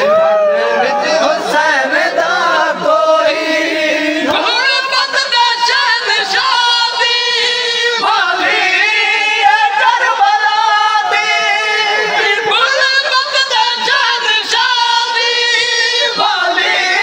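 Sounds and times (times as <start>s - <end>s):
men singing a lament: 0.5s - 17.0s.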